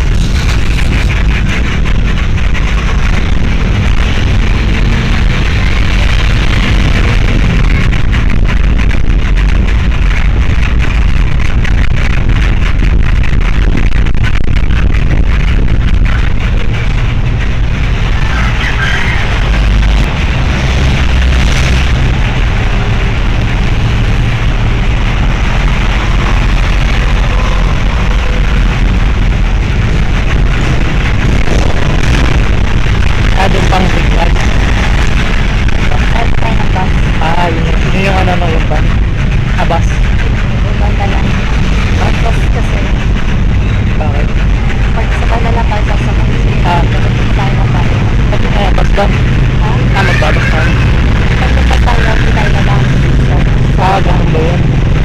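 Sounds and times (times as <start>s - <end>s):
road and wind noise: 0.0s - 55.0s
vehicle engine drone: 0.0s - 55.0s.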